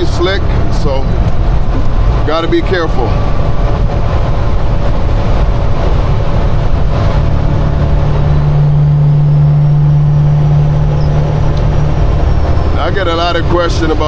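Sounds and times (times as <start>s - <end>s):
diesel truck engine running: 0.0s - 14.0s
road noise: 0.0s - 14.0s.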